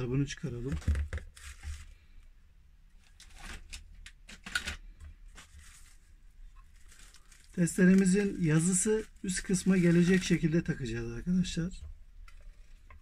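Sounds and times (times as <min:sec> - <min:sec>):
plastic wrap crinkling: 0:00.4 - 0:02.3, 0:03.0 - 0:13.0.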